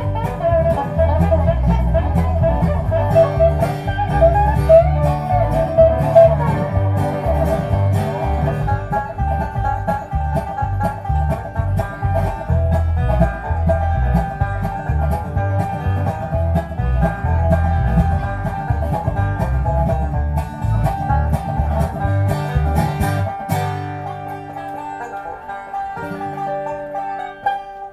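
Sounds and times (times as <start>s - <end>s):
acoustic string-band music: 0.0s - 27.9s.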